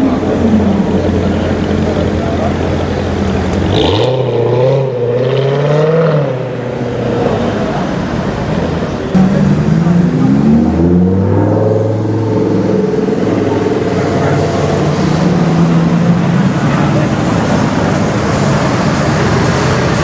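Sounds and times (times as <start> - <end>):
car exhaust roaring: 0.0 - 20.0
street traffic noise: 0.0 - 20.0.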